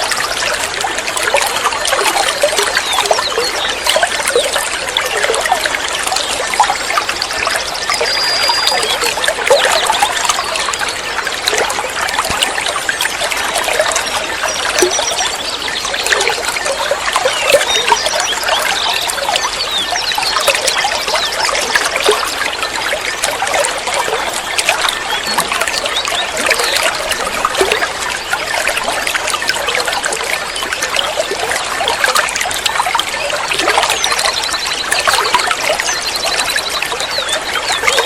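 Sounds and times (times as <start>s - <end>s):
water trickling: 0.0s - 38.0s.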